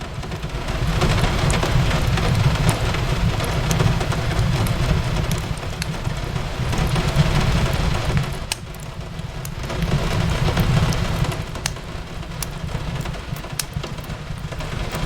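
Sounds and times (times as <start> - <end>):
rain on a window: 0.0 - 15.0
fireplace crackles: 0.1 - 15.0.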